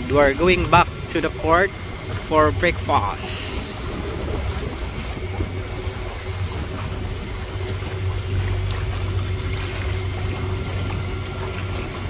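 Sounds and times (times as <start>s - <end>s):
boat motor humming: 0.0s - 12.0s
water washing along hull: 0.0s - 12.0s.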